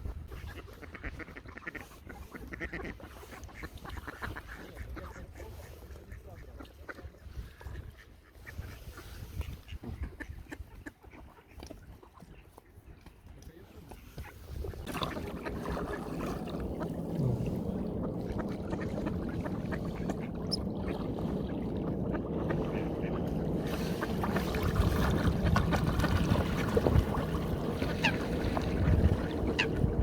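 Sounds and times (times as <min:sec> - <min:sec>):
ducks splashing in water: 0:00.3 - 0:09.0, 0:14.0 - 0:30.0
ducks quacking: 0:00.4 - 0:12.9, 0:14.2 - 0:30.0.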